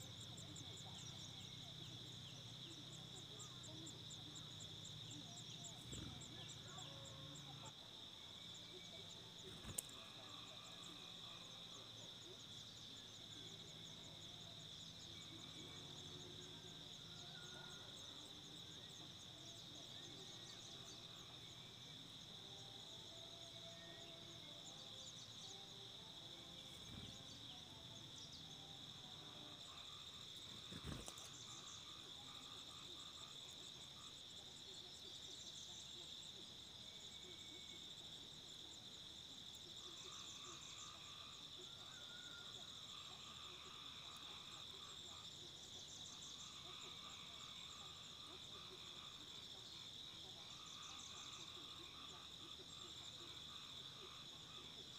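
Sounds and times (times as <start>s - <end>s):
insect drone: 0.0s - 54.9s.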